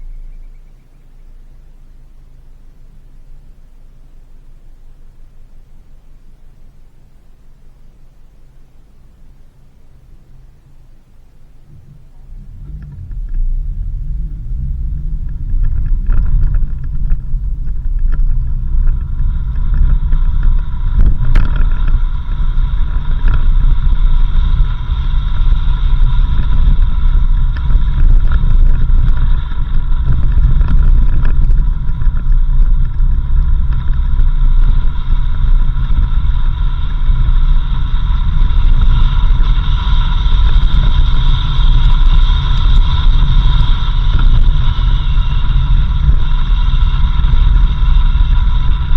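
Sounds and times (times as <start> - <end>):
engine and tyres rumbling: 0.0 - 48.9
high whine: 0.0 - 48.9.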